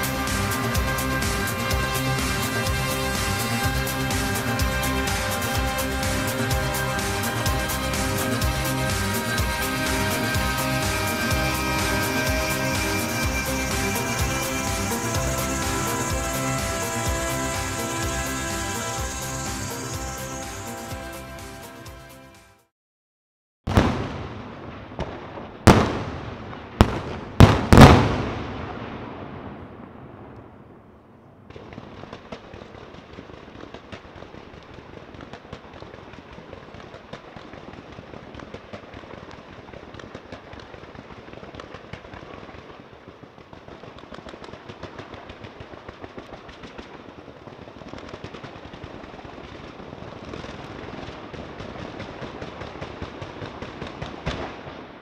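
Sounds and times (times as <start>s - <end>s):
loud firework shell bursts: 0.0s - 21.8s, 23.7s - 30.6s, 31.5s - 55.0s
rapid firework crackling: 0.0s - 22.2s, 23.7s - 30.4s, 31.4s - 55.0s.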